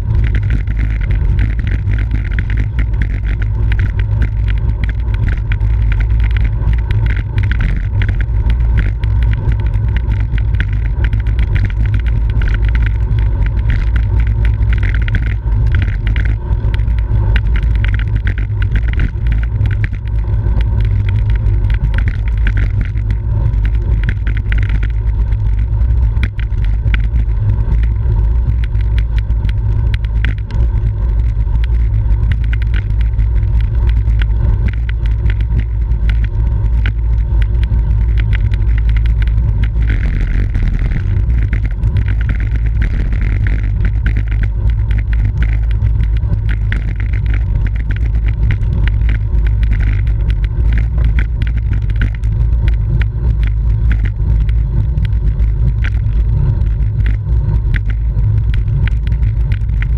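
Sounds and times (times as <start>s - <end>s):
bicycle clicking and rattling: 0.0s - 59.9s.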